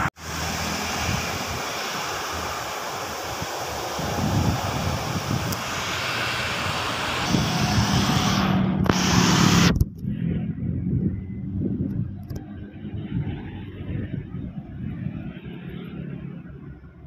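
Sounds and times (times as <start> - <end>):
distant airliner engines: 0.0 - 17.0
motorcycle passing: 0.0 - 17.0
wind on microphone: 0.0 - 17.0.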